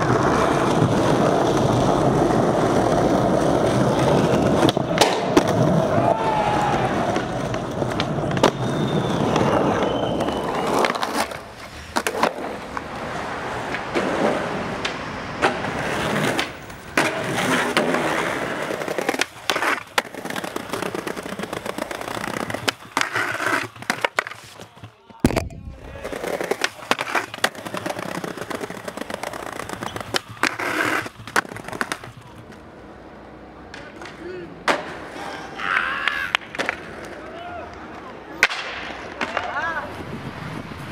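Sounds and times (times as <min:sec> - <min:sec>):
skateboard clacking: 0:00.0 - 0:40.2
skateboard wheels rolling on concrete: 0:00.0 - 0:40.9.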